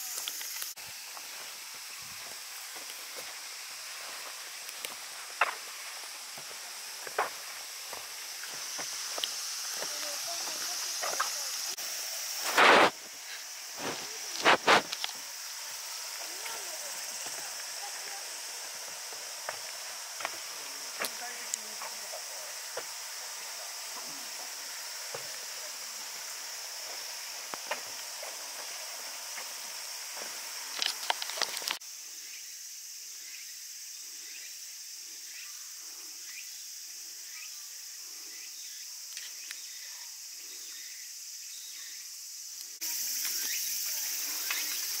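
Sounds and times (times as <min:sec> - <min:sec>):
chorus of insects: 0:00.0 - 0:45.0.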